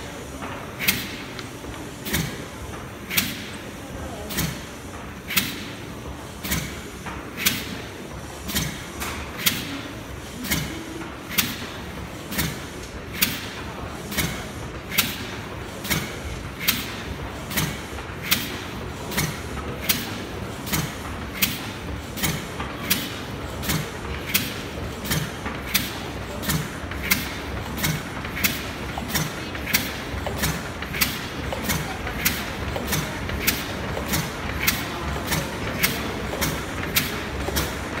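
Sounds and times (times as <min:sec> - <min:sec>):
machinery hum: 0:00.0 - 0:38.0
steam engine mechanical clack: 0:00.0 - 0:38.0.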